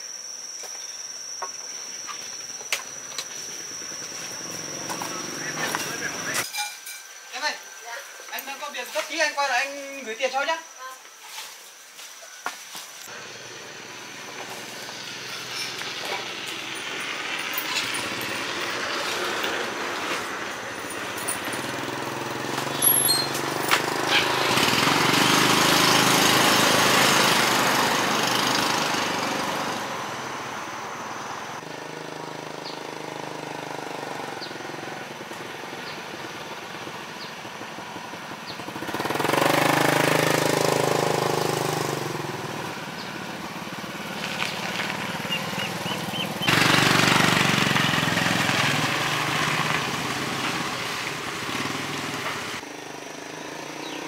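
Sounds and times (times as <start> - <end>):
small motorbike engine running: 0.8 - 6.5, 13.1 - 54.0.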